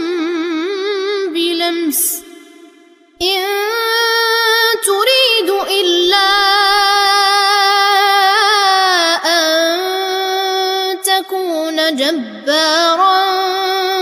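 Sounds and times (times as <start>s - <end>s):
boy chanting recitation: 0.0s - 14.0s.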